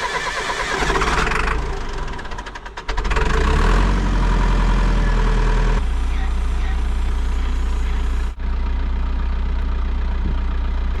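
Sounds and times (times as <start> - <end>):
diesel engine cranking and starting: 0.0 - 11.0.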